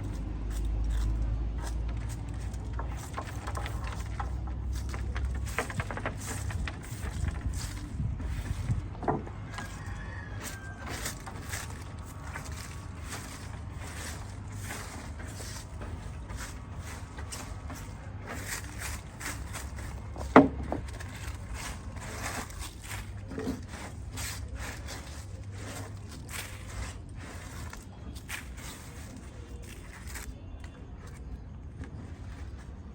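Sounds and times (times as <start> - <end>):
steady low rumble: 0.0 - 30.4.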